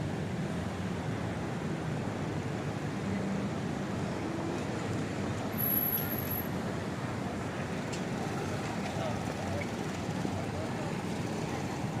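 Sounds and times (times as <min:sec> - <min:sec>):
passing vehicles hum: 0:00.0 - 0:12.0.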